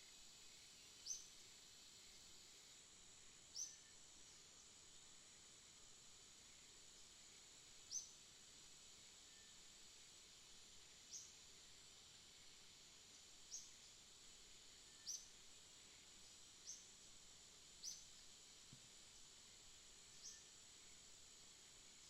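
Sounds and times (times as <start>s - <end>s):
insect hiss: 0.0s - 22.0s.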